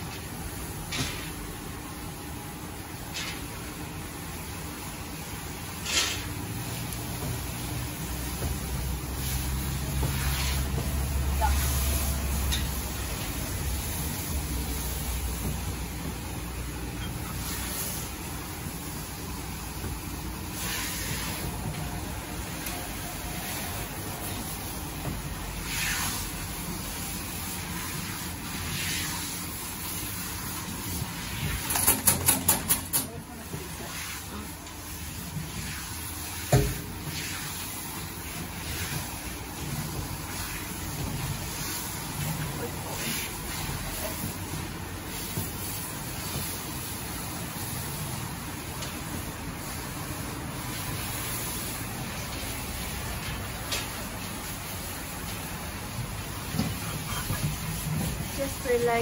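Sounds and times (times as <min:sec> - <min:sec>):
water spraying from hose: 0:02.4 - 0:59.0.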